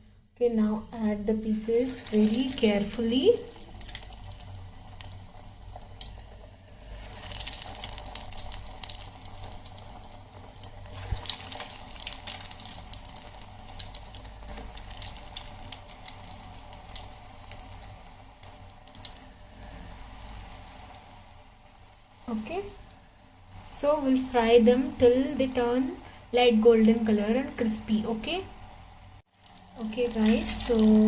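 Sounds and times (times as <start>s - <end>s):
food deep-frying in hot oil: 0.4s - 31.0s.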